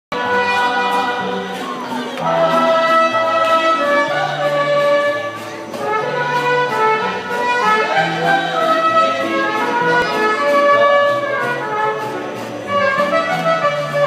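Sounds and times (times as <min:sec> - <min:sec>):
carousel music: 0:00.1 - 0:14.0.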